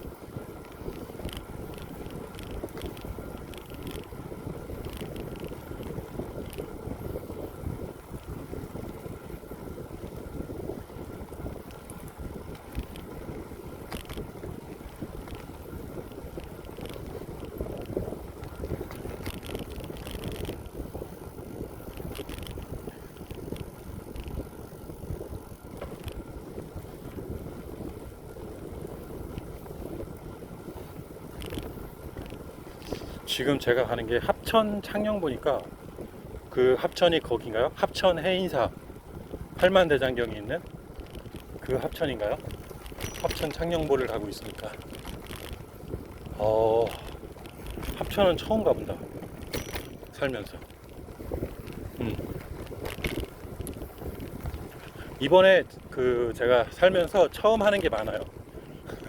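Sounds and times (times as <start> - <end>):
bicycle tyre noise on path: 0.0 - 59.0
light crackles: 0.0 - 59.0
wind buffeting microphone: 0.0 - 59.0.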